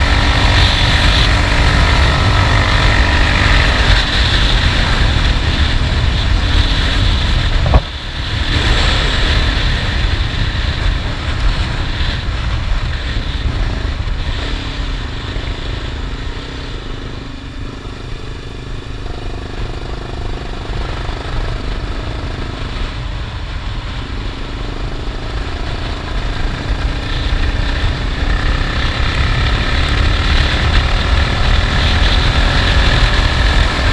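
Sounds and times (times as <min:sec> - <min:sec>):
motorcycle engine running: 0:00.0 - 0:33.9
wind noise on microphone: 0:00.0 - 0:33.9.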